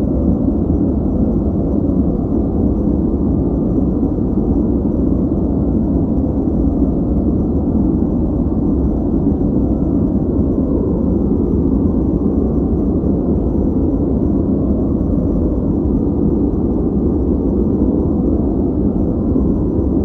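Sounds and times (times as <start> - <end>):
deep white noise hiss: 0.0 - 20.0.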